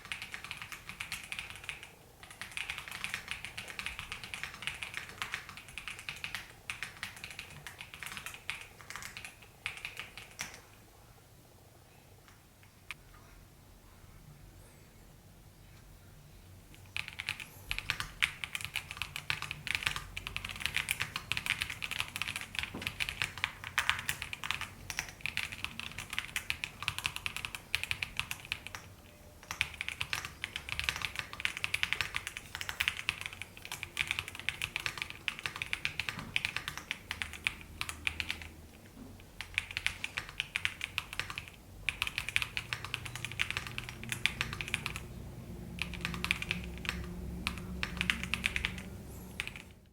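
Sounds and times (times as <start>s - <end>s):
mechanical keyboard typing: 0.0s - 10.6s, 17.0s - 38.6s, 39.2s - 45.1s, 45.8s - 49.8s.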